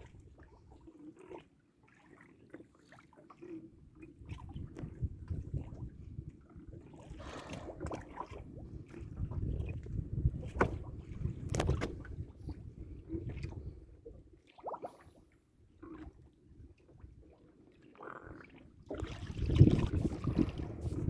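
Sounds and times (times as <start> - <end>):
water against hull: 0.0 - 21.0.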